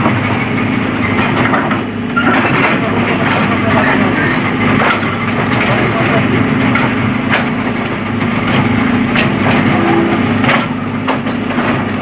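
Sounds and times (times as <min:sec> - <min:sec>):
digging machine engine running: 0:00.0 - 0:12.0.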